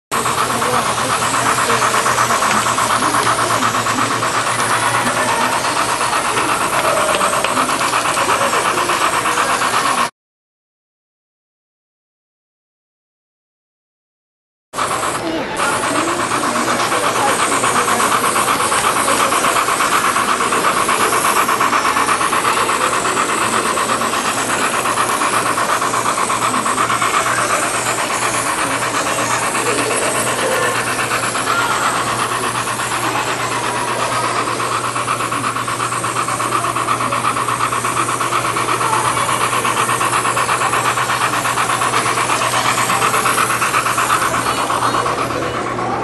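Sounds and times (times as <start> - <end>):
model train wheels rattling on rails: 0.1 - 10.1, 14.8 - 46.0
motor hum: 0.1 - 10.1, 14.8 - 46.0.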